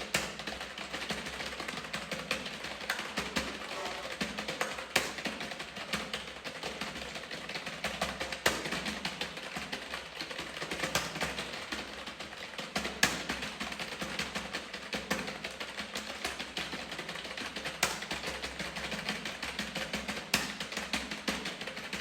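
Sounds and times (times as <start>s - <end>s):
fast typing on keyboard: 0.0s - 22.0s.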